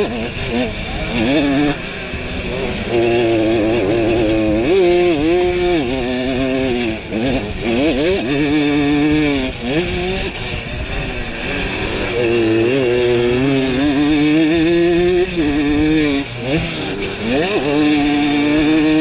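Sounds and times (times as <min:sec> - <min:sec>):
two-stroke engine revving hard: 0:00.0 - 0:19.0.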